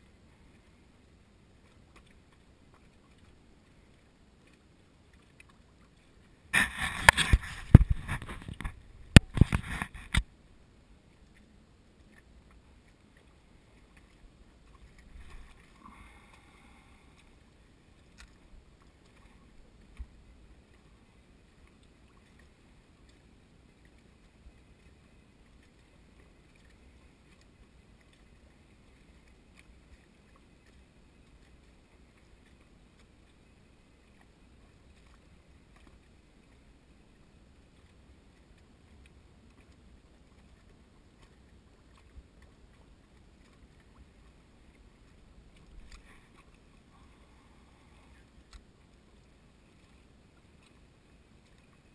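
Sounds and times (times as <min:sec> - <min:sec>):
small waves lapping: 0:00.0 - 0:51.9.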